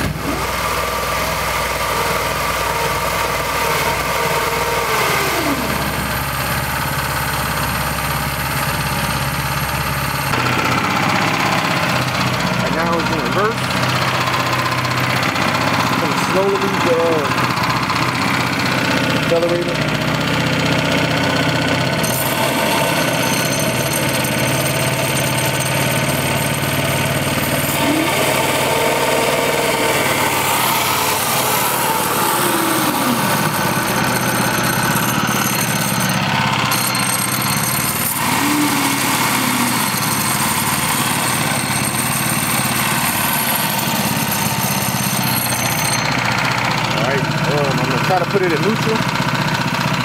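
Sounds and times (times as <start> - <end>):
small gasoline engine running: 0.0 - 50.0.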